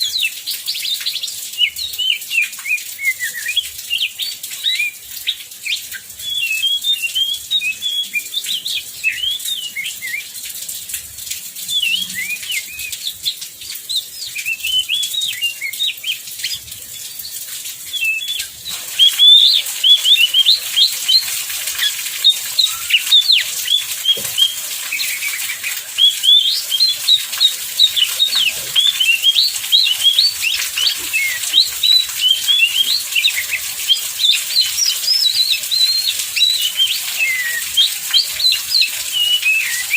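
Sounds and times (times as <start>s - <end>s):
bird singing chirps and whistles: 0.0s - 10.4s, 11.6s - 39.9s.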